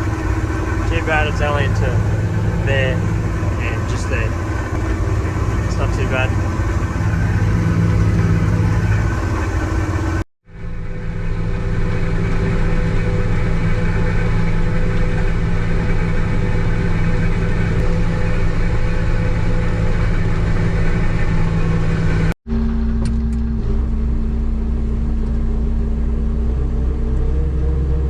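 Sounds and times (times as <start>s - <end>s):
combine harvester engine drone: 0.0s - 28.0s
higher machine hum: 0.0s - 28.0s.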